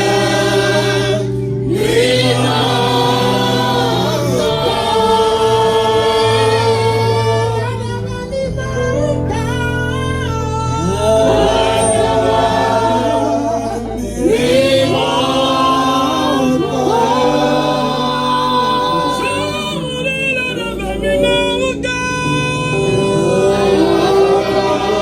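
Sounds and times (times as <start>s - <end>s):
choir singing gospel music: 0.0s - 25.0s.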